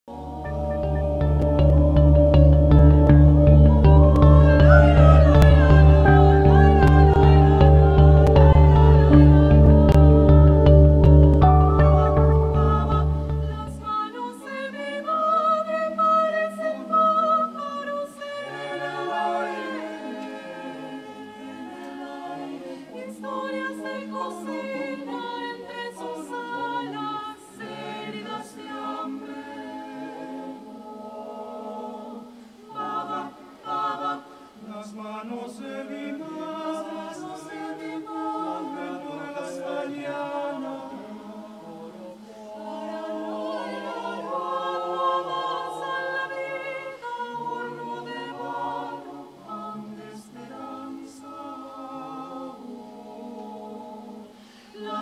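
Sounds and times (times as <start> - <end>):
mixed choir singing a cappella: 0.0 - 55.0.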